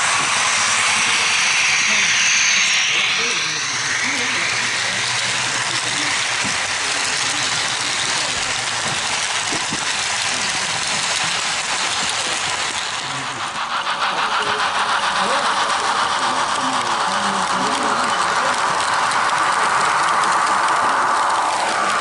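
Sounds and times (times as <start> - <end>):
model locomotive engine hum: 0.0 - 22.0
model train wheels on track: 0.0 - 22.0.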